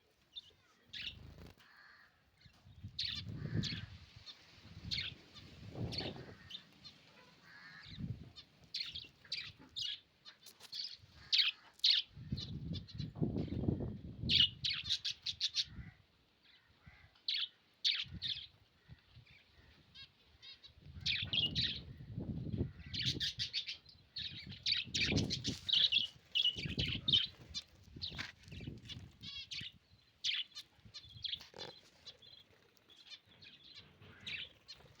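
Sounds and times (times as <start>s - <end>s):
lovebirds chirping: 0.3s - 13.1s, 19.3s - 35.0s.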